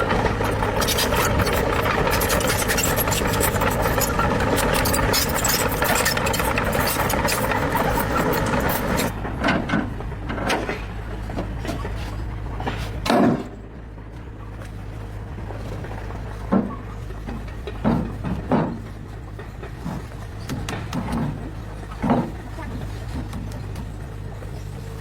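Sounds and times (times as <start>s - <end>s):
tractor engine clattering: 0.0s - 25.0s.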